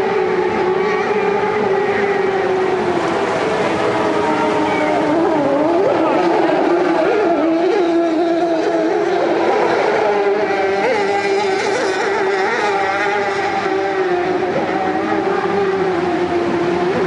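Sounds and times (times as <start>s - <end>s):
outboard motor running at high revs: 0.0s - 17.0s
rush of whitewater spray: 0.0s - 17.0s.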